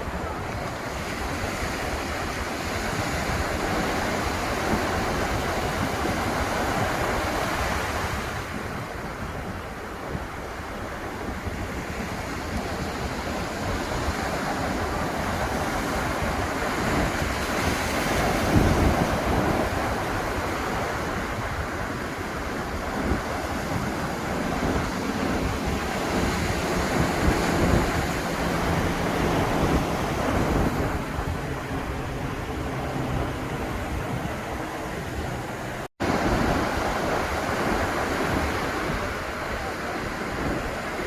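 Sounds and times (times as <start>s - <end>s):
ocean surf breaking: 0.0s - 41.0s
wind on microphone: 0.0s - 41.0s.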